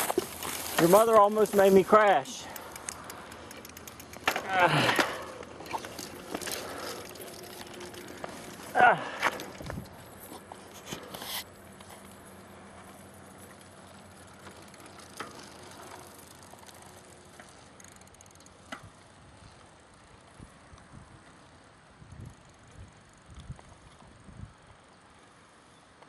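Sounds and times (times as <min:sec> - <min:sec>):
bicycle clicks and rattles: 0:00.0 - 0:24.4
bicycle tyres rolling: 0:00.0 - 0:26.0.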